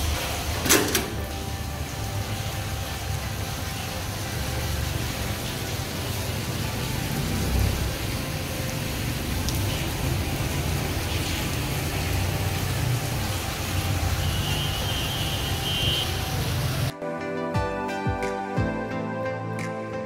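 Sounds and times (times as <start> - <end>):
rain on wet pavement: 0.0 - 16.9.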